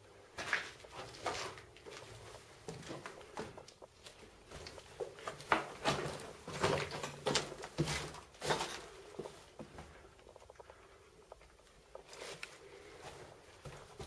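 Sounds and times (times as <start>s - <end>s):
footsteps crunching on gritty floor: 0.3s - 14.0s.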